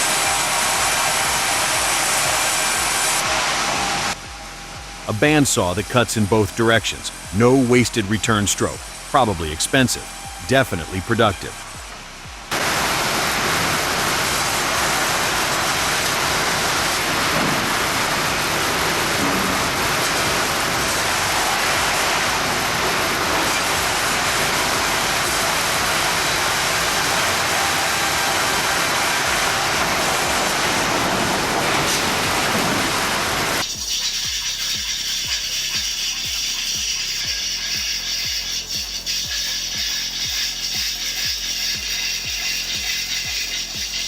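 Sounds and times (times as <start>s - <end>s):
sawmill saw cutting log: 0.0s - 11.8s, 12.5s - 44.0s.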